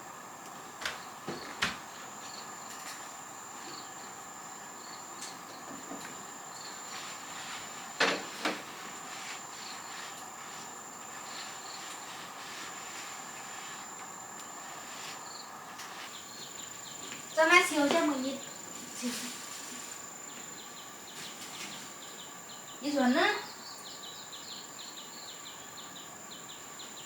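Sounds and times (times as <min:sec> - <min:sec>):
insects trilling: 0:00.0 - 0:27.0
faint chirps: 0:01.0 - 0:27.0.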